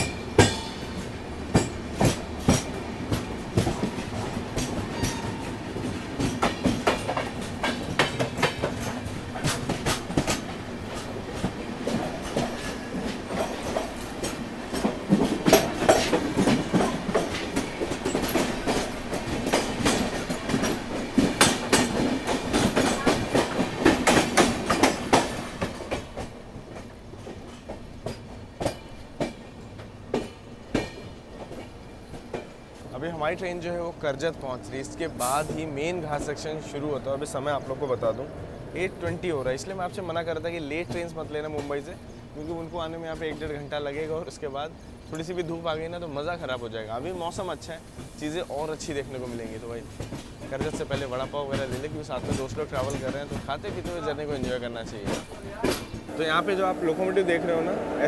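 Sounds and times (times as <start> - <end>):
train wheels clattering over joints: 0.0 - 57.0
rush of passing train coaches: 0.0 - 58.0.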